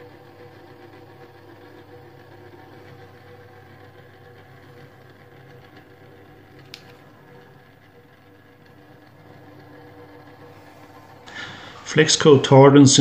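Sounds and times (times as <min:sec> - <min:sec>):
small motor running: 0:00.0 - 0:12.5.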